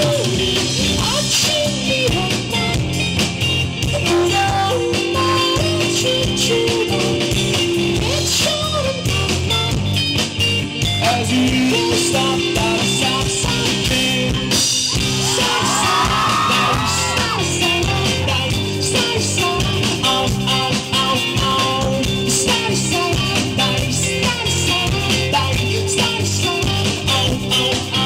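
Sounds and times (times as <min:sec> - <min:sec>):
singer singing: 0:00.0 - 0:10.1, 0:11.0 - 0:28.0
electric guitar: 0:00.0 - 0:28.0
rock band playing: 0:00.0 - 0:28.0.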